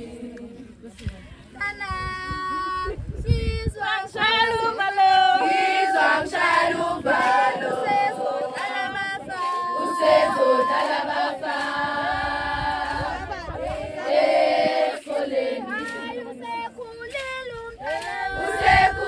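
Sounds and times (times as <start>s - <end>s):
group of voices singing: 0.0s - 1.2s, 2.8s - 19.0s.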